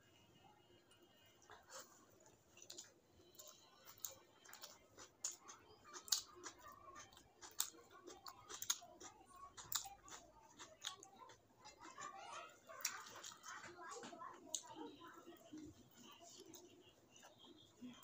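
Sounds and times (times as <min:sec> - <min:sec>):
mouth chewing: 0:01.4 - 0:17.3.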